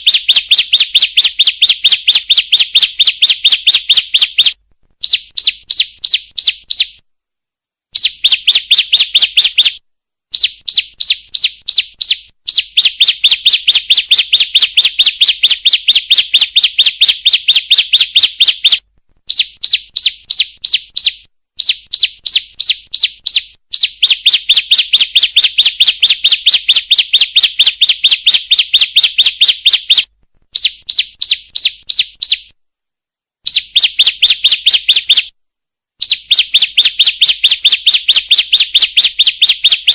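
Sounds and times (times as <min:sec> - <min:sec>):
bird high sharp chirps: 0:00.0 - 0:07.0, 0:07.9 - 0:32.6, 0:33.4 - 0:35.4, 0:36.0 - 0:39.9.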